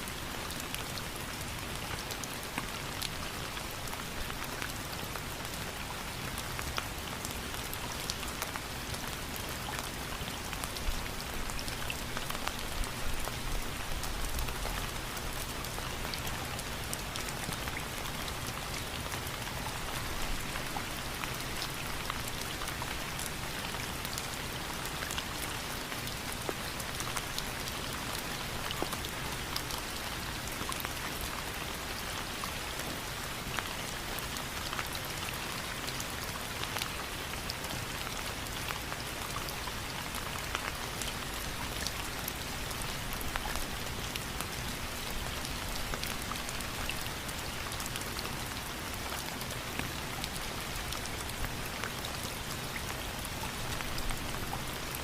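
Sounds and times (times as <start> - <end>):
rain drops pattering on a surface: 0.0 - 55.0.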